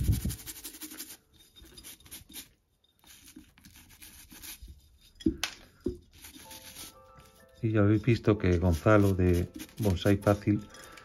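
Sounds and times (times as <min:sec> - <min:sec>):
brush scrubbing roots: 0:00.0 - 0:05.2, 0:06.0 - 0:11.0.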